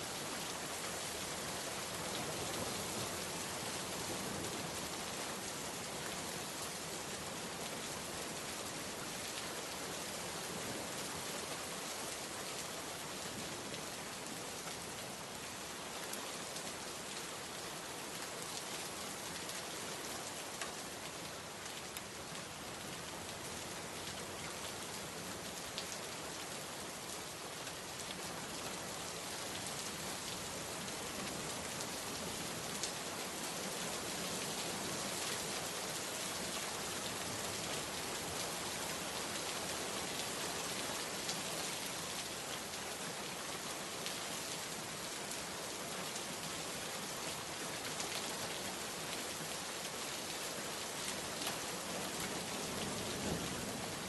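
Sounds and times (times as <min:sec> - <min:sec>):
heavy rain on surfaces: 0:00.0 - 0:54.0.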